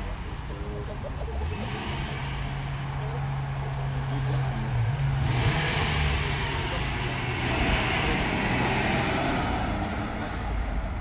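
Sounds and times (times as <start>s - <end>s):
car accelerating past: 1.6s - 11.0s.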